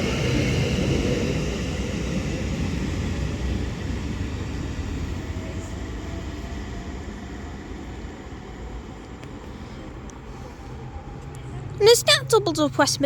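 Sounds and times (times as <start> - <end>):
electric train pulling away: 0.0 - 11.8.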